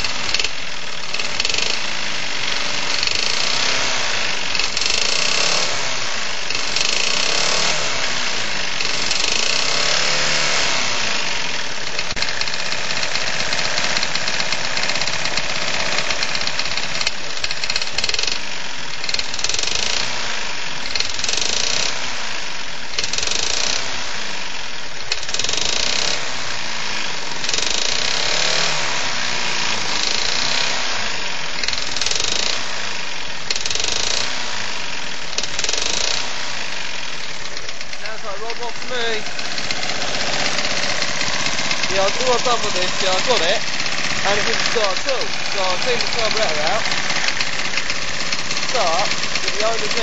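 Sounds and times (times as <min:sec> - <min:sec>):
lawn mower engine knocking: 0:00.0 - 0:50.0.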